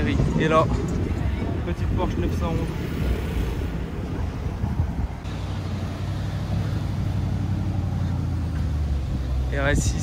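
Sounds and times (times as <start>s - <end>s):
car engines rumbling: 0.0s - 10.0s.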